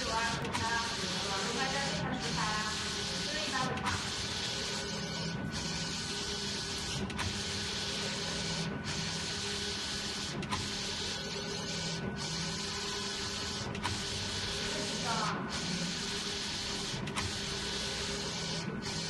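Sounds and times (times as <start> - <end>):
printer carriage whirring: 0.0 - 19.0.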